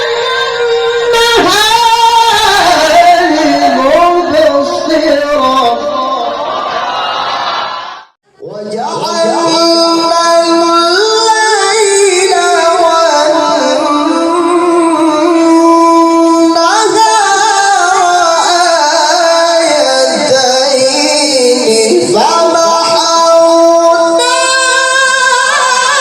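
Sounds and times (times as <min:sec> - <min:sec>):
man reciting melodically: 0:00.0 - 0:06.5, 0:08.3 - 0:26.0.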